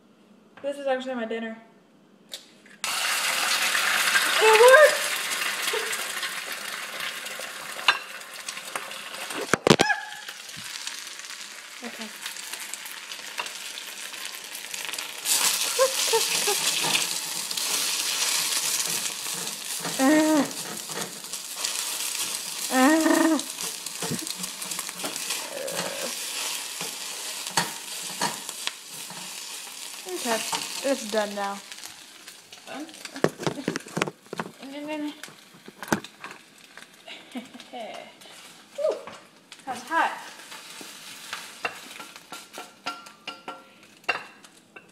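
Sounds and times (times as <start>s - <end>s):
eggs sizzling in a pan: 2.8s - 44.9s.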